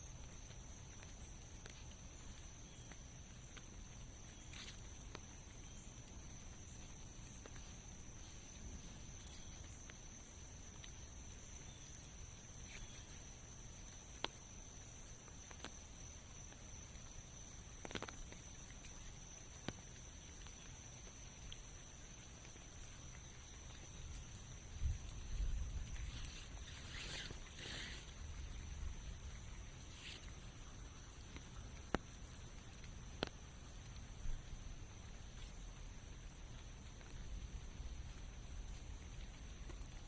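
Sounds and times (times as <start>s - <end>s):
drips and ticks: 0.0s - 40.0s.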